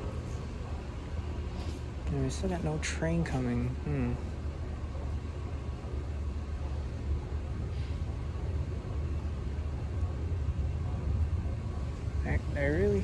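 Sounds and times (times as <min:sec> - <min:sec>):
subway platform rumble: 0:00.0 - 0:13.0.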